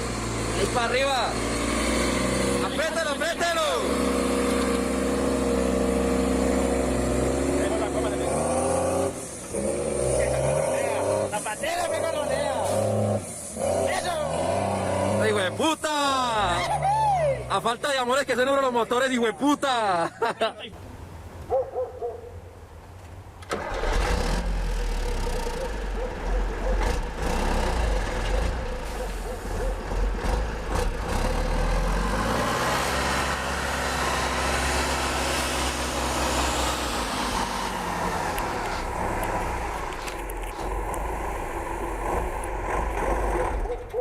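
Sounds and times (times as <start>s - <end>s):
vehicle engine revving: 0.0s - 16.9s, 23.5s - 44.0s.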